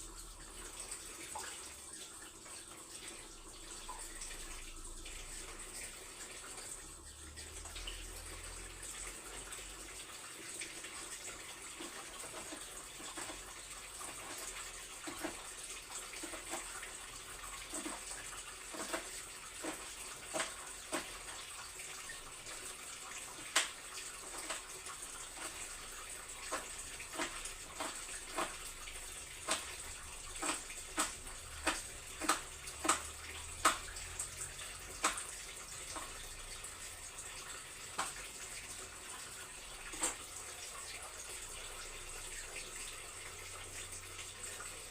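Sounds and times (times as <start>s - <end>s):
tap water running into sink: 0.0s - 44.9s.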